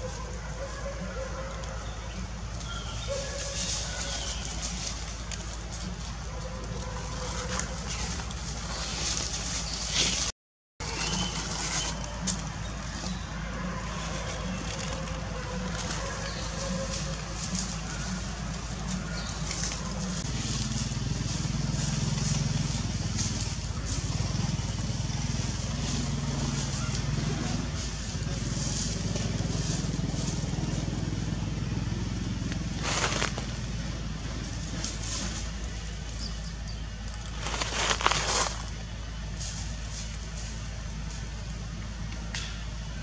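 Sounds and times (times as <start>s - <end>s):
low outdoor rumble: 0.0s - 43.0s
small engine running: 1.8s - 43.0s
crackling rustle: 2.4s - 42.5s.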